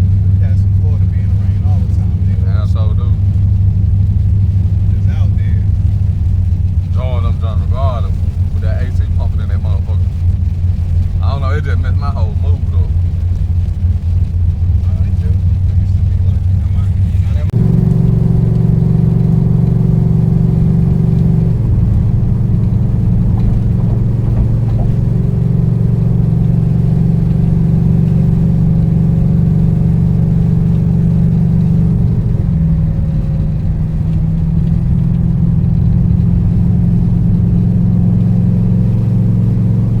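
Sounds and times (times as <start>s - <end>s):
car engine droning in cabin: 0.0s - 40.0s.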